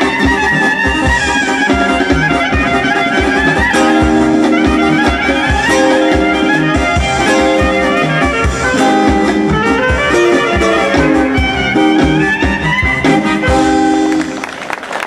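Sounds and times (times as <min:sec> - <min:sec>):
brass band folk dance music: 0:00.0 - 0:15.0.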